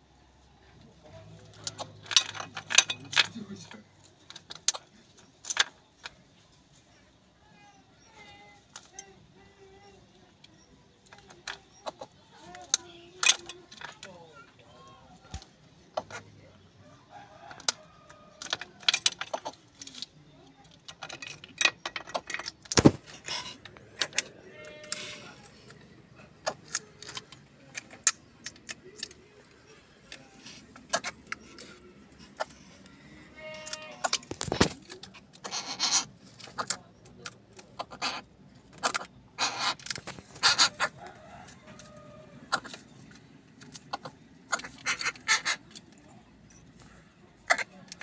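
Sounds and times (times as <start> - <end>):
bird bill clattering among shells: 1.3 - 6.4, 10.4 - 14.4, 17.1 - 48.0.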